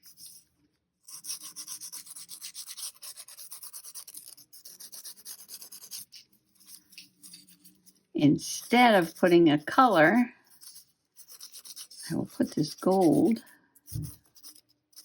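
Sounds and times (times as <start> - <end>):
brush scrubbing cardboard: 1.0 - 15.0.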